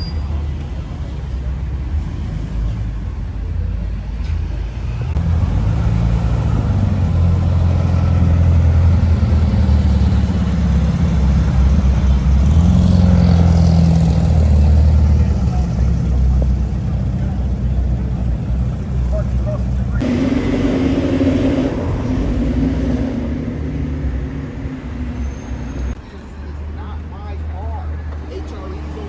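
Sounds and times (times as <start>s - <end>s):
car engine rumbling: 0.0s - 29.0s.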